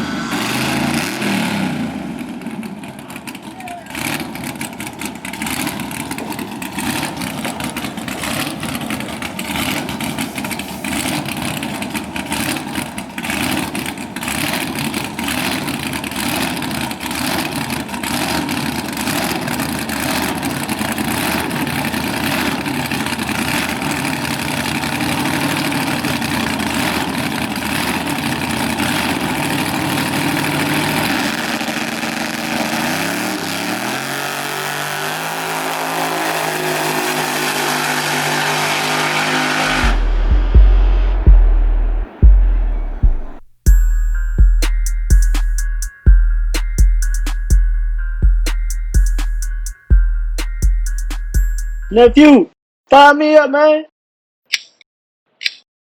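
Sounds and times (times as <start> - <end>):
racing car engine crackling exhaust: 0.0 - 52.2.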